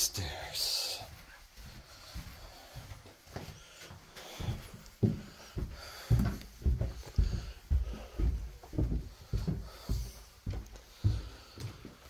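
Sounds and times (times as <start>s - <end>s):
footsteps on indoor floor: 0.0s - 12.0s.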